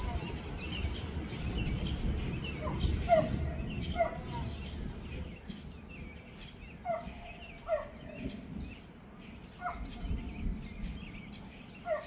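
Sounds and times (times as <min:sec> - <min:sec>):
loud bird calls: 0:00.0 - 0:12.0.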